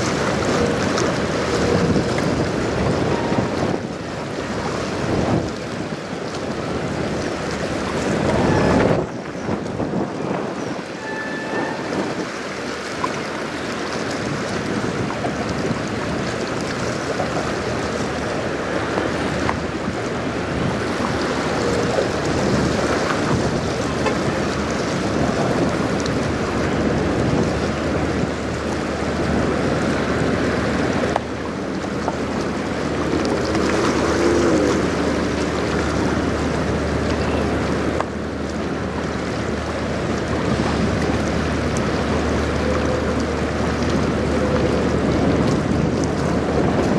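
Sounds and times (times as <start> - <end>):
choppy river water: 0.0 - 46.9
ship engine hum: 0.0 - 46.9
wind noise on microphone: 0.0 - 46.9.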